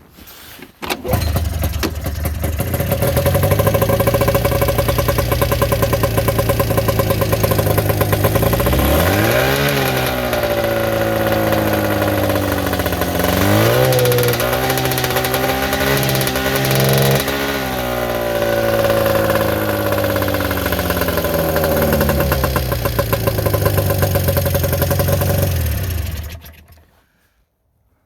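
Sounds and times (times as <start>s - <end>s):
snowmobile engine running: 1.1s - 26.7s.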